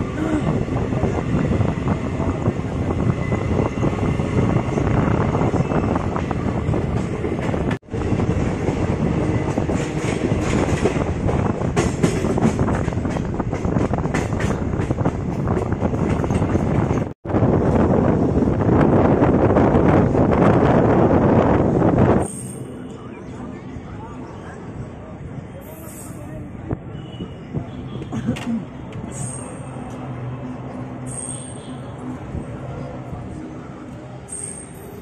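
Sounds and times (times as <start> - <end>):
train rumbling along track: 0.0 - 35.0.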